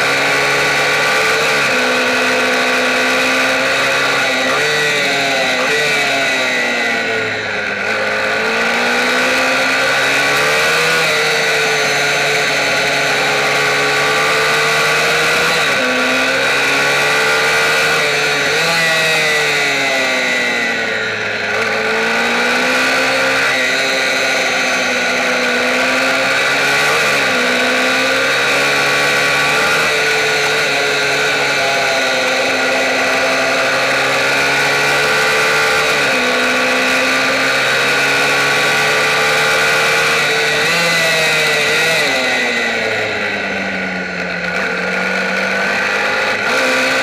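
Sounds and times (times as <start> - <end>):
minibike engine running hard: 0.0 - 47.0.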